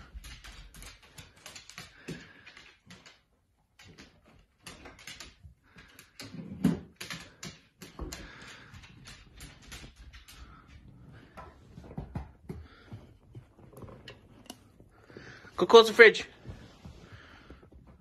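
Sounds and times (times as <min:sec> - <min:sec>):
dog claws clicking on floor: 0:00.0 - 0:15.6.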